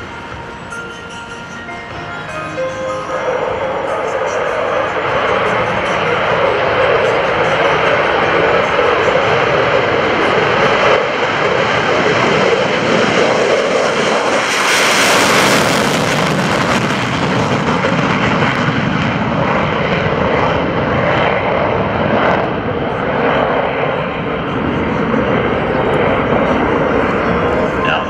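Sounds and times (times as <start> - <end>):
jet taking off in afterburner: 0.0 - 28.0.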